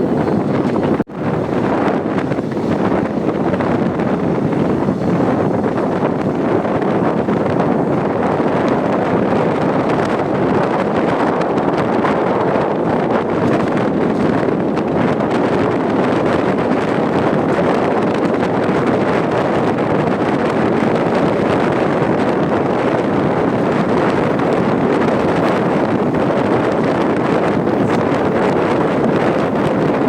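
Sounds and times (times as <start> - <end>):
electric train running: 0.0 - 30.0
wind on microphone: 0.0 - 30.0.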